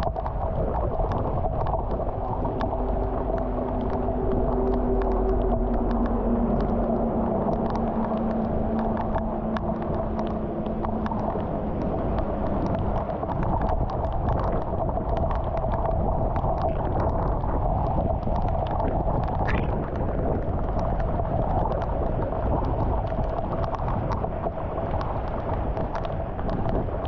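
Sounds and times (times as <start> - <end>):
rain on a flooded street: 0.0 - 27.0.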